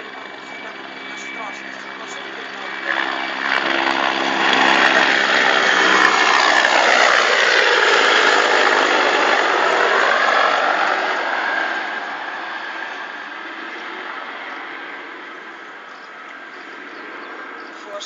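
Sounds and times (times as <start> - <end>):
helicopter flying low overhead: 0.0 - 18.0.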